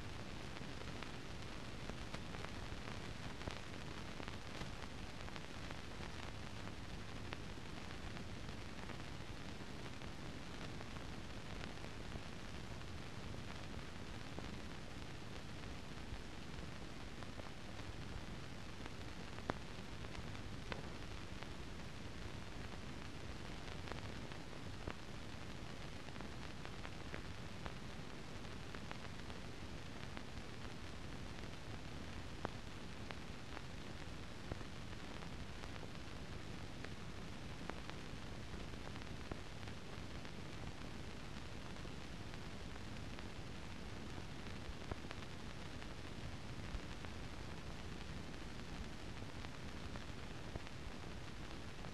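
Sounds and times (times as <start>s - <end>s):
faint clicks and crackles: 0.0s - 51.9s
steady hiss: 0.0s - 51.9s.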